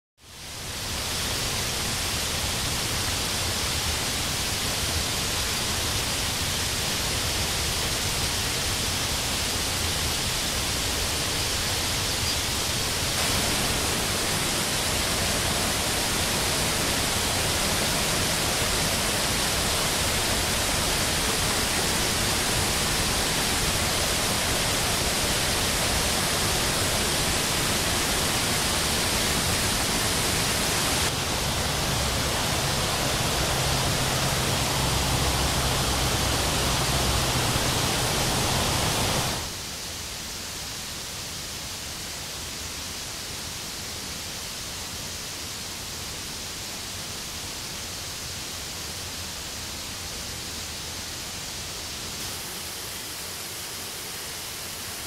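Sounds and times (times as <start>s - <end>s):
mountain stream rushing: 0.4s - 55.0s.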